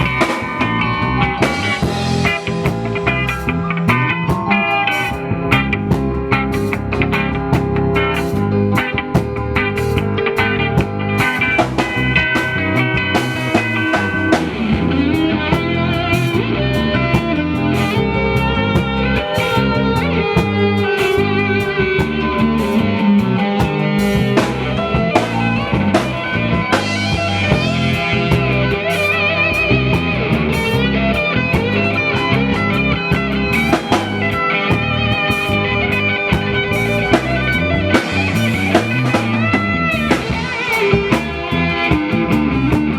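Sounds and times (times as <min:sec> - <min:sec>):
electric guitar bent notes: 0:00.0 - 0:42.9
live band playing: 0:00.0 - 0:42.9.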